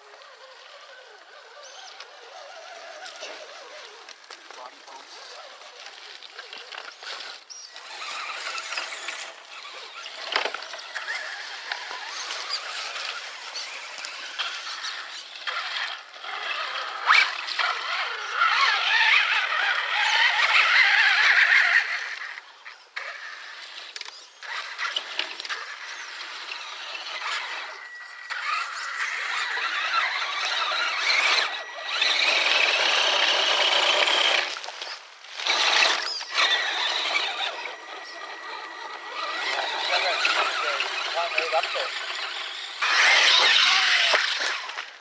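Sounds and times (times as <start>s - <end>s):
rc truck motors whining: 0.0s - 45.0s.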